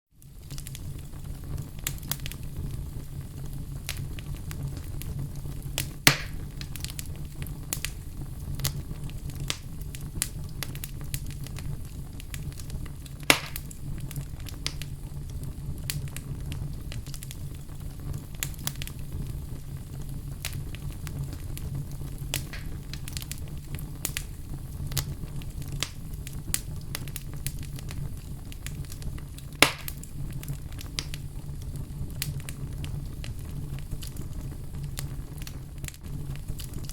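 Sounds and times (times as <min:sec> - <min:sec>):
fireplace fire crackling: 0:00.1 - 0:36.9
loud fire pops: 0:00.2 - 0:36.9.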